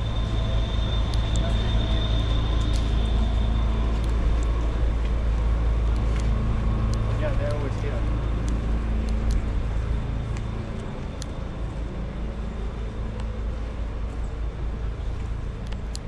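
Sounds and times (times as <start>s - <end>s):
traffic rumble: 0.0s - 16.0s
vehicle engine hum: 0.0s - 16.0s.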